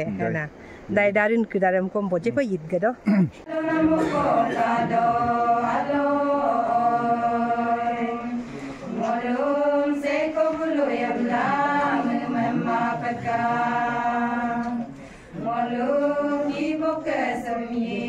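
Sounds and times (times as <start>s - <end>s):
women singing in unison: 3.4s - 18.0s.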